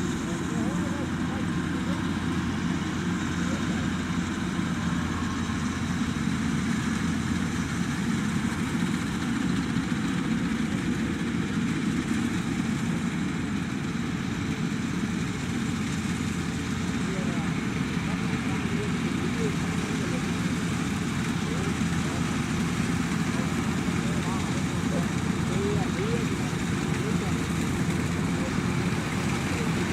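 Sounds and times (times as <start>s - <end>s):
combine harvester engine and machinery: 0.0s - 29.9s.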